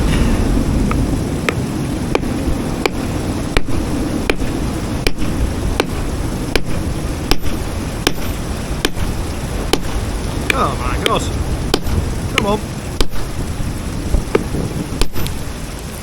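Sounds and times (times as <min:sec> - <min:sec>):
wind rumble on microphone: 0:00.0 - 0:16.0
hammer tapping rock: 0:01.5 - 0:13.4, 0:14.3 - 0:15.4.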